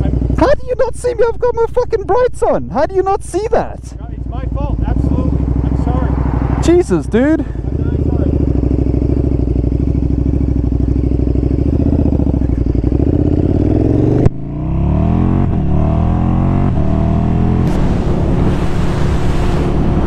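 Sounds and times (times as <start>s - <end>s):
motorcycle engine accelerating: 0.0s - 2.3s, 3.9s - 20.0s.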